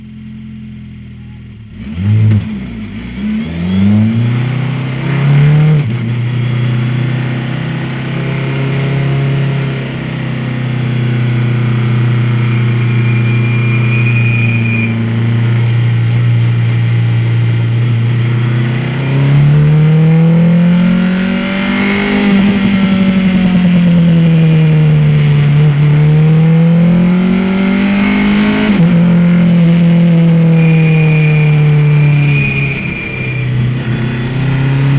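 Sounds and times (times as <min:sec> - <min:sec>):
race car engine revving: 0:01.2 - 0:34.9.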